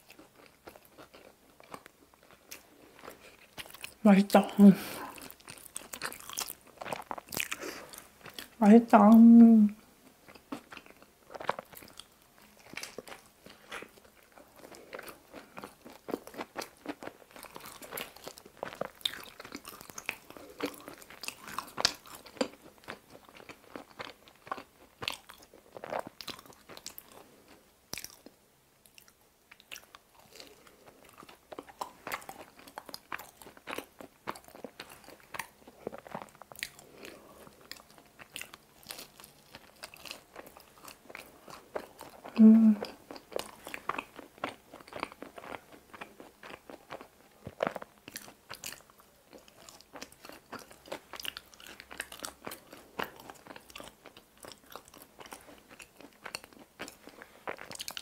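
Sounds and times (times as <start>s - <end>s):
wet chewing mouth sounds: 0.0s - 8.6s, 10.2s - 58.0s.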